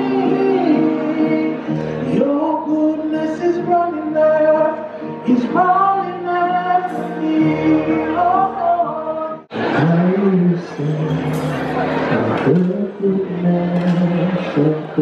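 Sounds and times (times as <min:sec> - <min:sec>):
song with singer holding long notes: 0:00.0 - 0:15.0.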